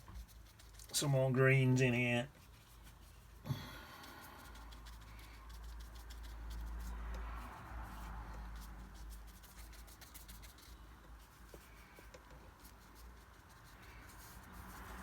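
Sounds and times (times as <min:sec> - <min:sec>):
paintbrush rubbing on paper: 0:00.0 - 0:01.2, 0:01.9 - 0:15.0.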